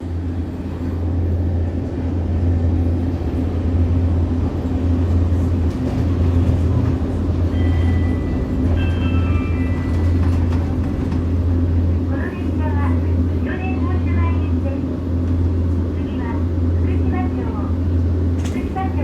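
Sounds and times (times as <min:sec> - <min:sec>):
tram wheels droning on rails: 0:00.0 - 0:19.0.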